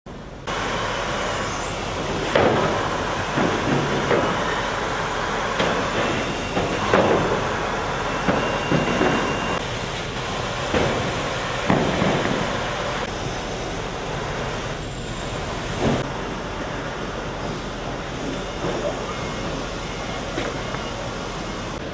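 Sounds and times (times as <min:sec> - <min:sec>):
sanding machine running: 0:00.5 - 0:21.8.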